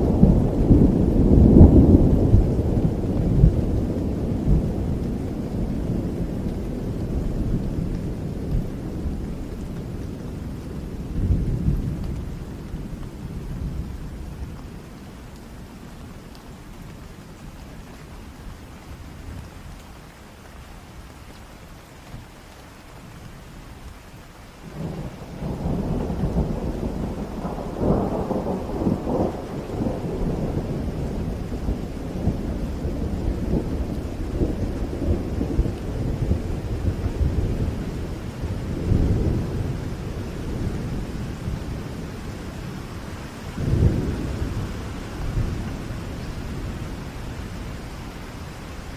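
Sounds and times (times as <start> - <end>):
rolling rumble of thunder: 0.0 - 17.6, 24.6 - 48.9
steady rain: 0.0 - 48.9.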